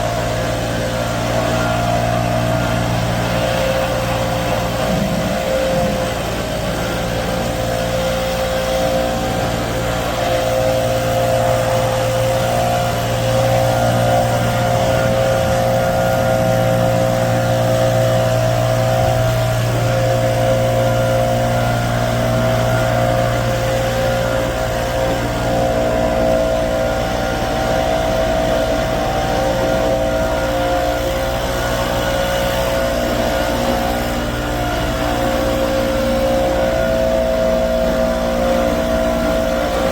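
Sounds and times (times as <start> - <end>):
motor droning: 0.0 - 39.9.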